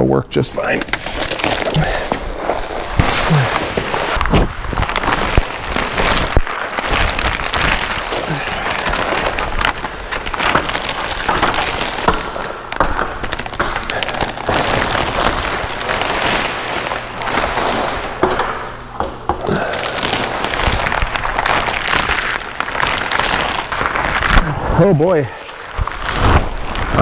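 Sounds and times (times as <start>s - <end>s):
plastic sheeting crinkling: 0.5s - 27.0s.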